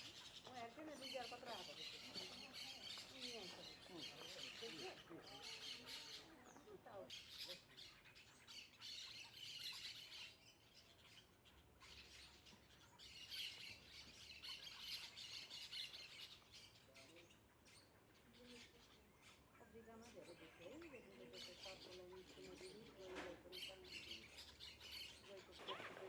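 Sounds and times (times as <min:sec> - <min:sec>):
birds squawking and chirping: 0:00.0 - 0:26.0.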